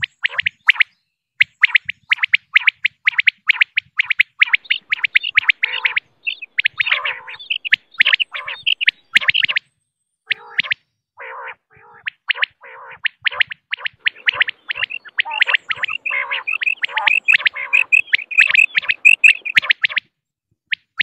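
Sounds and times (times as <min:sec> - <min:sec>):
quail chirping: 0:00.1 - 0:00.9, 0:01.6 - 0:09.7, 0:10.3 - 0:20.0.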